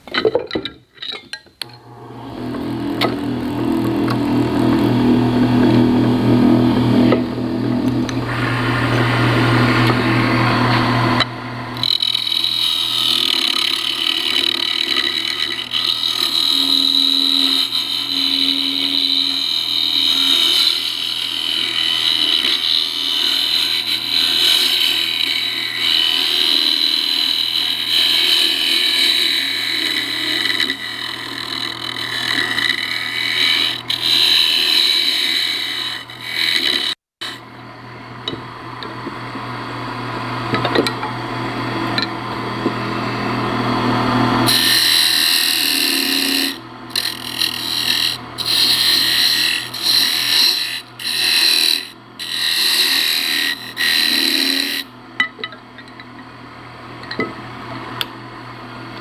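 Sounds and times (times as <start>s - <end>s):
wood lathe tool cutting wood: 1.7s - 37.4s, 42.8s - 54.9s.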